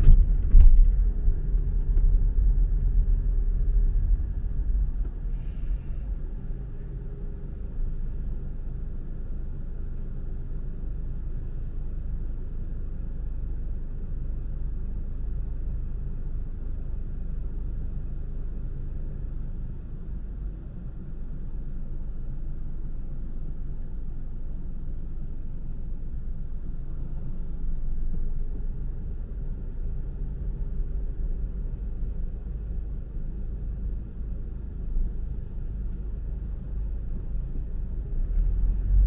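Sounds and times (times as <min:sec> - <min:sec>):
car engine and tyre noise: 0:00.0 - 0:39.0.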